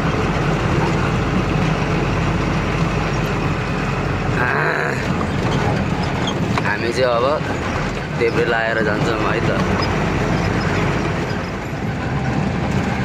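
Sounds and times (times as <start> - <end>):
cab rattling: 0.0 - 13.0
truck engine running: 0.0 - 13.0
tyre noise on rough road: 0.0 - 13.0.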